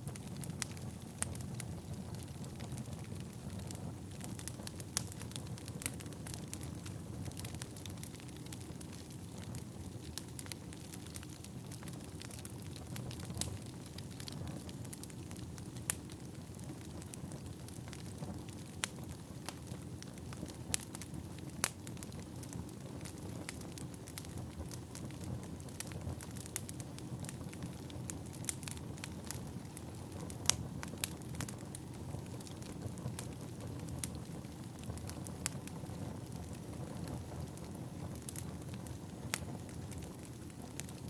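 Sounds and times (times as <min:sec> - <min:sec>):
firewood crackling and popping: 0:00.0 - 0:41.0
low rush of fire: 0:00.0 - 0:41.0.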